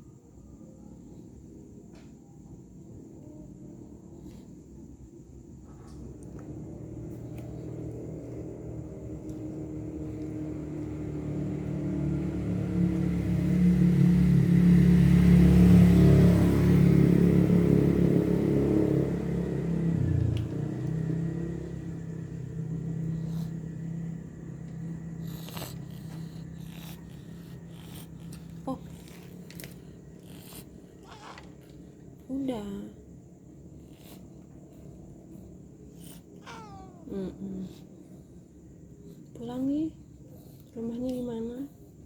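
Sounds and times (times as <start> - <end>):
vehicle engine passing: 5.9 - 40.7.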